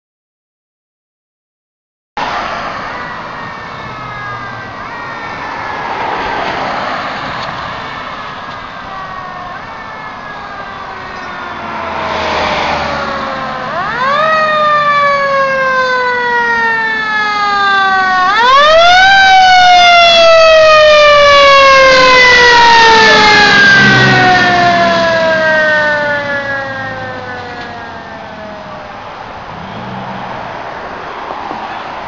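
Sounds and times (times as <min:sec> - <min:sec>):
fire engine siren wailing: 0:02.2 - 0:30.6.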